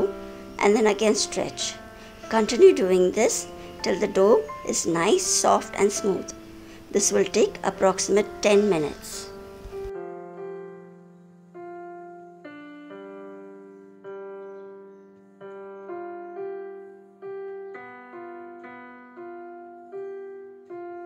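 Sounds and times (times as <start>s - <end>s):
slow piano melody: 0.0s - 21.0s.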